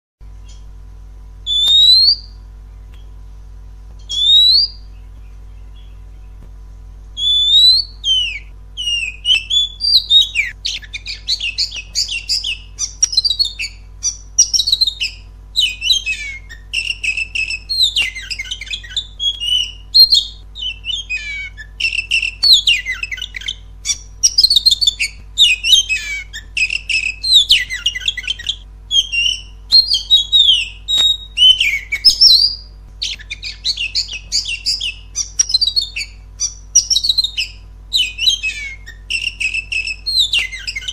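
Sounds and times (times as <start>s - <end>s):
bird singing varied whistles: 1.4s - 2.4s, 4.0s - 6.3s, 7.2s - 40.9s.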